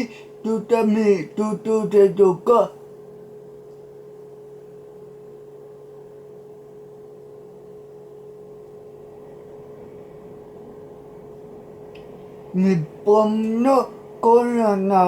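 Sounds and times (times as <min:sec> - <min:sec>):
constant mid-pitched tone: 0:00.0 - 0:15.0
low hiss: 0:00.0 - 0:15.0.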